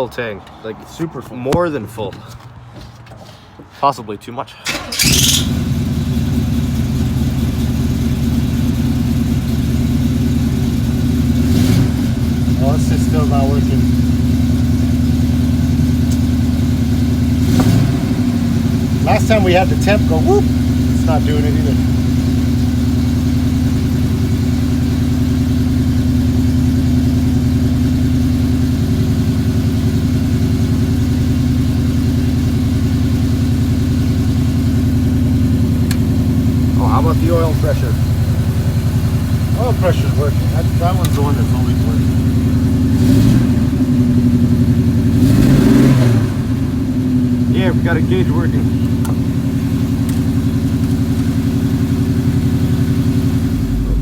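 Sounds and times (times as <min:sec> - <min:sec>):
car engine idling: 0:04.6 - 0:54.0.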